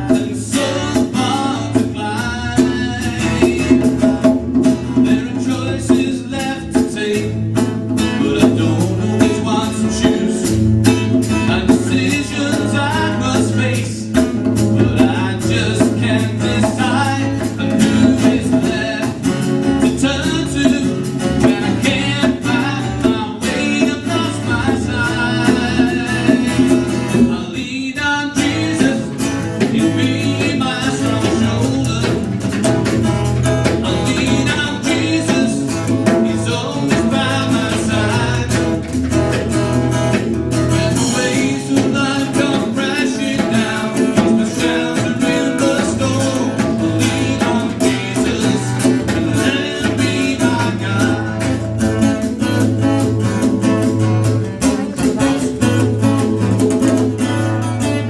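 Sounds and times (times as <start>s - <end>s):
man singing: 0.0s - 39.6s, 40.2s - 53.1s, 53.7s - 58.0s
hand percussion: 0.0s - 58.0s
strummed acoustic guitar: 0.0s - 58.0s.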